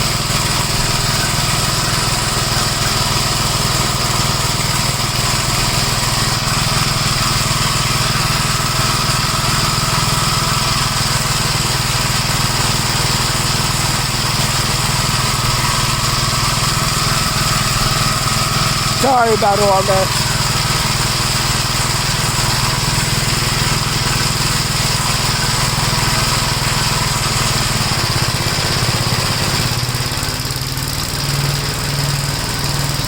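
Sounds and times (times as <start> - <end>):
mower chopping leaves: 0.0 - 33.0
tractor engine running: 0.0 - 33.0.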